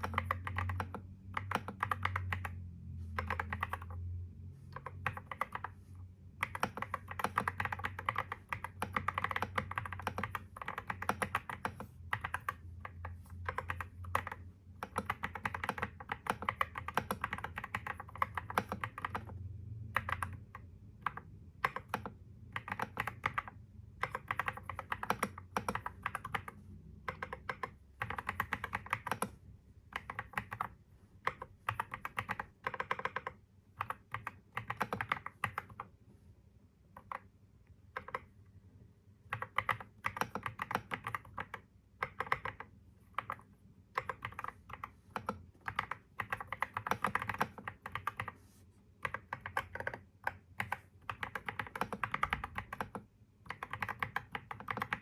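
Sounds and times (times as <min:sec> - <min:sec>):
typing on computer keyboard: 0:00.0 - 0:04.1, 0:04.7 - 0:05.8, 0:06.4 - 0:36.0, 0:36.9 - 0:38.4, 0:39.3 - 0:48.4, 0:49.0 - 0:55.0.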